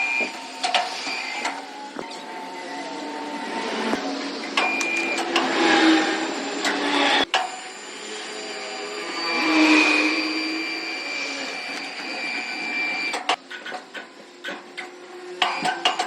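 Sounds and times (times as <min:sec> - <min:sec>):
power saw whining: 0:00.0 - 0:16.0.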